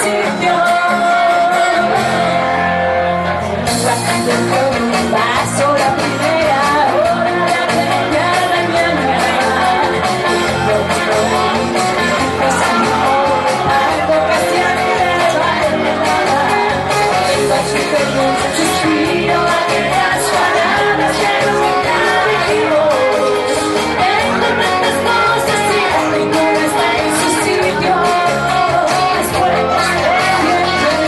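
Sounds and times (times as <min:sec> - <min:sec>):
woman singing into a microphone: 0:00.0 - 0:02.8, 0:03.7 - 0:31.0.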